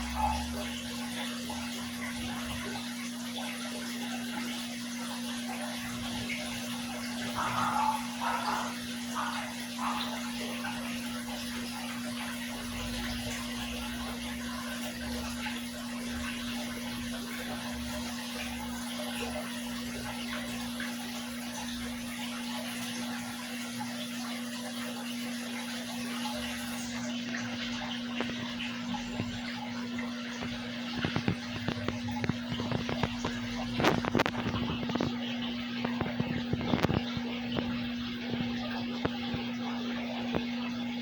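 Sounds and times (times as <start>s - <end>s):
water trickling and splashing: 0.0s - 41.0s.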